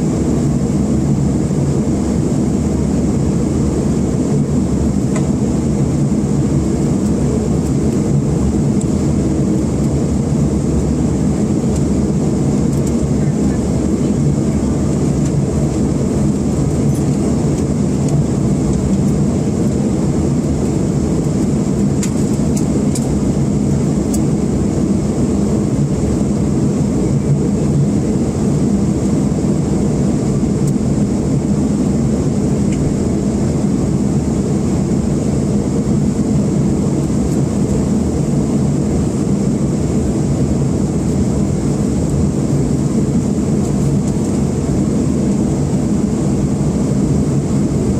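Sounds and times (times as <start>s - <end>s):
jet engine rumble: 0.0s - 47.9s.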